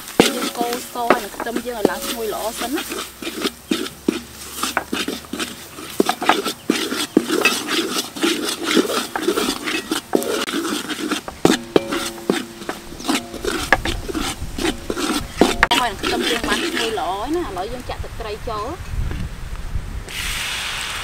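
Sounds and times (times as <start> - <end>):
metal ladle scraping a wok: 0.0 - 17.8
garlic paste frying: 0.0 - 18.8.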